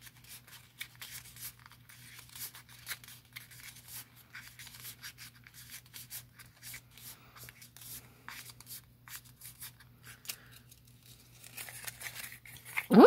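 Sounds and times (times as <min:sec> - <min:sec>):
paper rustling and crinkling: 0:00.0 - 0:12.9.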